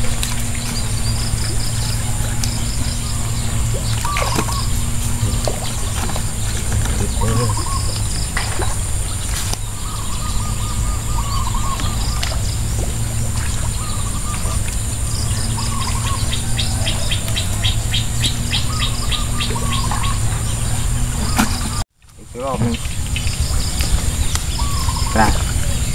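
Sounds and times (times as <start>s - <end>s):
birds wavering calls: 0.0s - 25.9s
steady high drone: 0.0s - 25.9s
steady low hum: 0.0s - 25.9s
high bird chirps: 0.4s - 21.8s, 22.4s - 25.9s.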